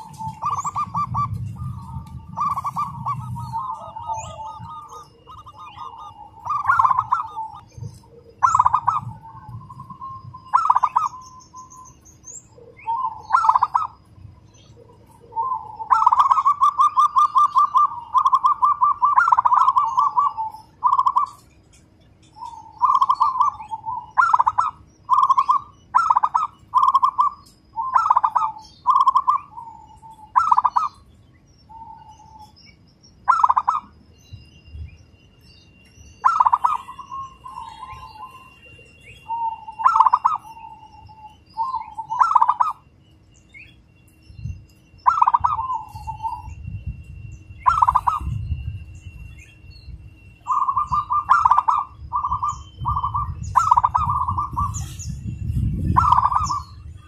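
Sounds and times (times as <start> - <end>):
dove cooing: 0.0 - 21.4, 22.3 - 31.1, 33.2 - 33.9, 36.2 - 42.9, 45.0 - 46.5, 47.6 - 48.5, 50.4 - 55.1, 55.7 - 57.0.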